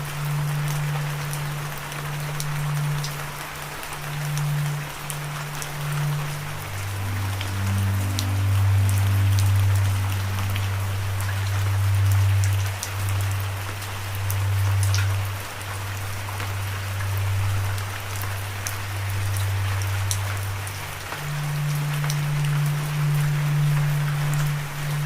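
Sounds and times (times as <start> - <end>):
loud low droning tone: 0.0 - 25.0
raindrops ticking: 0.0 - 25.0
steady rain falling: 0.0 - 25.0.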